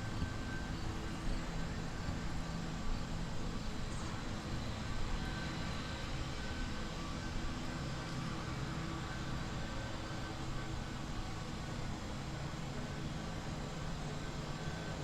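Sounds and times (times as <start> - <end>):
faint humming tones: 0.0 - 15.0.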